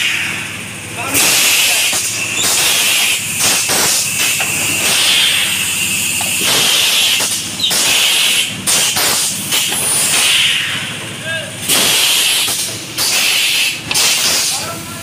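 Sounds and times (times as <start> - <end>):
compressed air hissing: 1.1 - 11.0, 11.6 - 14.8.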